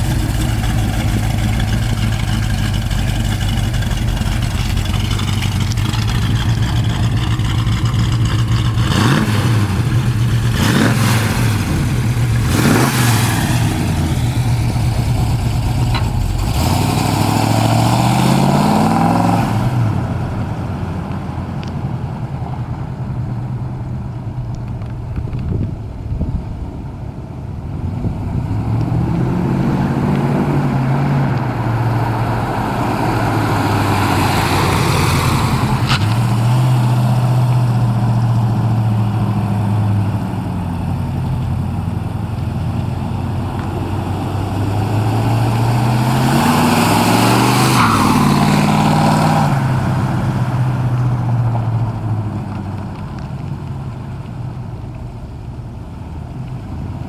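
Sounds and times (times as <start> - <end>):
car engine revving: 0.0 - 21.1, 27.9 - 40.3, 40.9 - 53.5.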